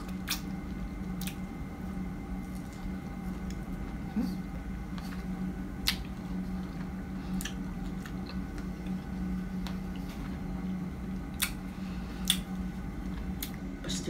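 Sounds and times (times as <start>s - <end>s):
wet chewing of strawberry: 0.0s - 13.6s
steady low hum: 0.0s - 14.0s.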